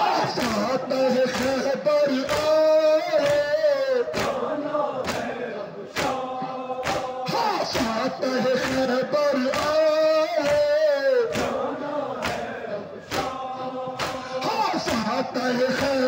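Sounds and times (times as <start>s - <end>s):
hands slapping chests: 0.0s - 16.0s
men chanting a lament: 0.0s - 16.0s.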